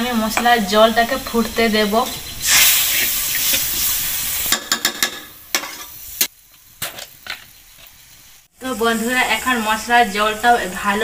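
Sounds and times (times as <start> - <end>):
water hissing and sizzling in wok: 0.0 - 11.0.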